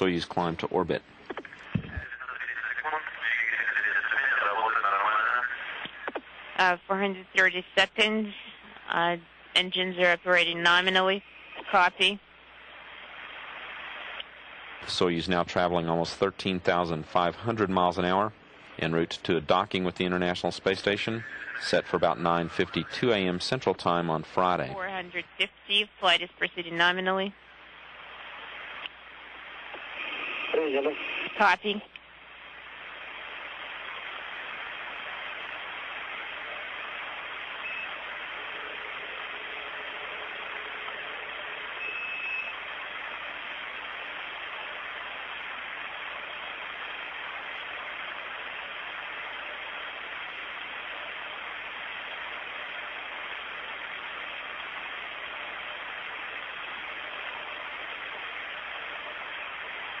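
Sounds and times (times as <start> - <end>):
radio channel hiss: 0.0 - 60.0.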